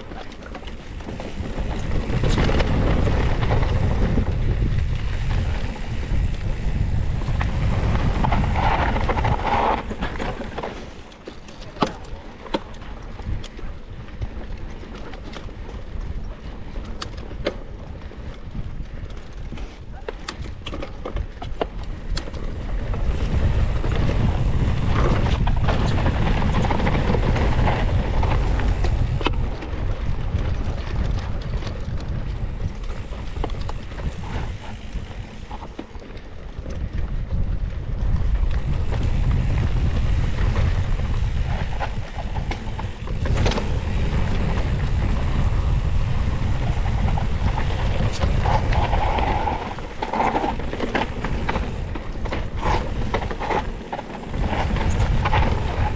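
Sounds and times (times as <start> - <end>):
wind rushing over microphone: 0.0 - 14.6, 15.9 - 55.9
bike rattling: 0.0 - 55.9
tyres running over dirt: 0.0 - 55.9.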